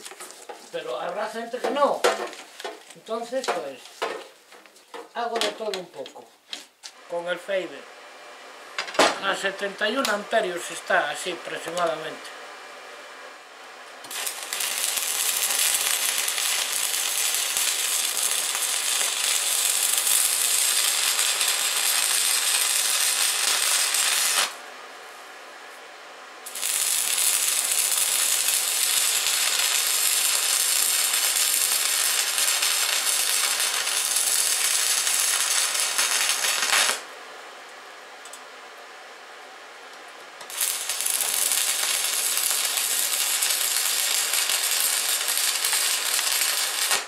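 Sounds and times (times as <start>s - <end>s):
arc welding crackle and sizzle: 0.0s - 47.0s.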